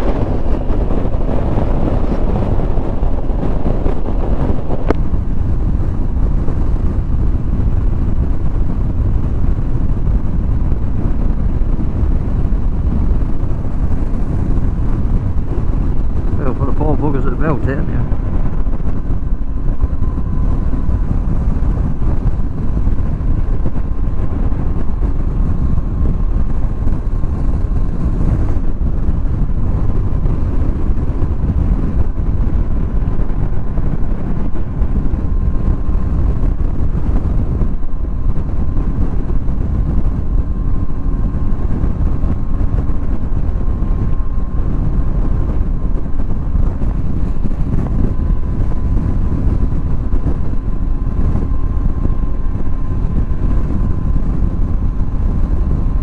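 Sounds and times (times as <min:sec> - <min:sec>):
faint steady whine: 0:00.0 - 0:56.0
road noise: 0:00.0 - 0:56.0
wind rushing over microphone: 0:00.0 - 0:56.0.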